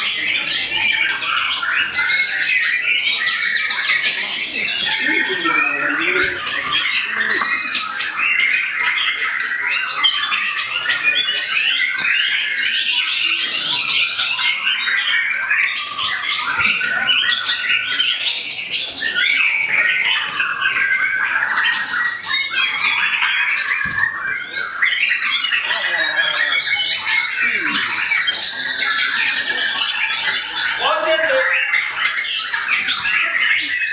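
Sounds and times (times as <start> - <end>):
songbirds singing: 0.0 - 33.9.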